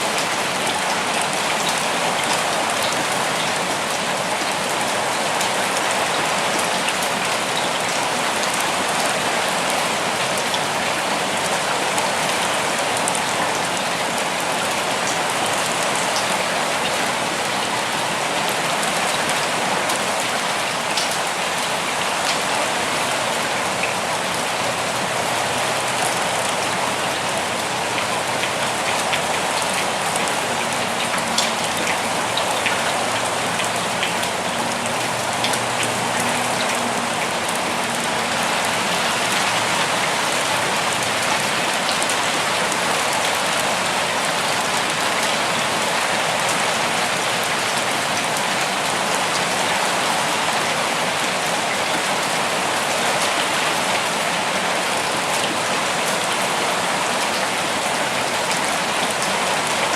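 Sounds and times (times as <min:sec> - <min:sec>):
steady rain falling in forest: 0:00.0 - 0:59.9.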